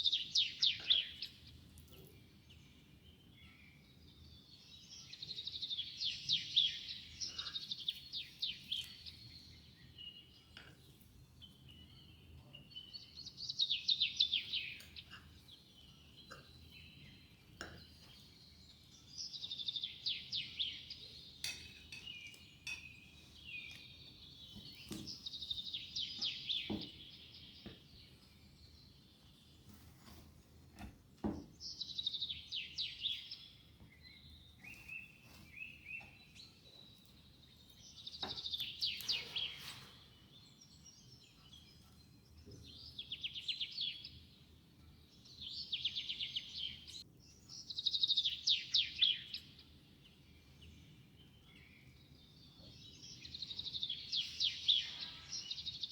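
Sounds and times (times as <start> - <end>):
bird chirping: 0.0 - 55.9.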